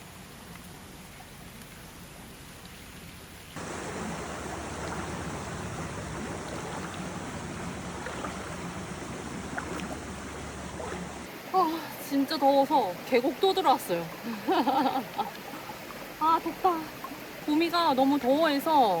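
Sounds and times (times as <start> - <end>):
faint steady hiss: 0.0 - 19.0
mountain stream flowing: 0.0 - 19.0.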